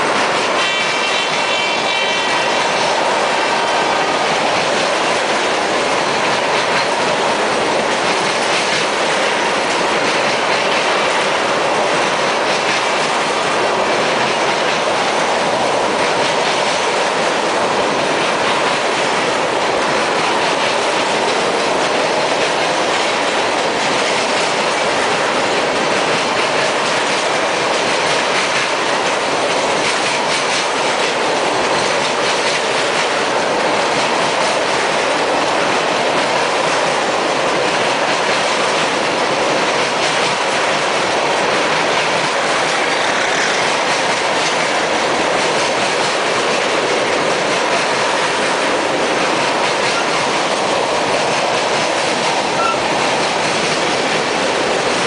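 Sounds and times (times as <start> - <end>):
freight train rolling past: 0.0 - 55.0
steel wheels clicking on rail: 0.0 - 55.0.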